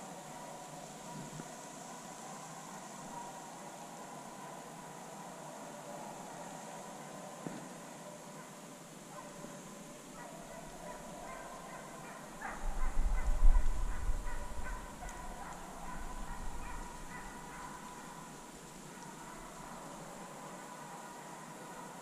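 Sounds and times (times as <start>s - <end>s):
distant hounds baying: 0.0s - 22.0s.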